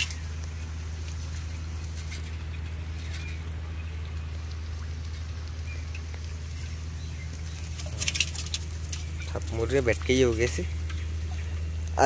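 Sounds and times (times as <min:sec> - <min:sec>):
prawns clicking: 0:00.0 - 0:12.0
steady low hum: 0:00.0 - 0:12.0.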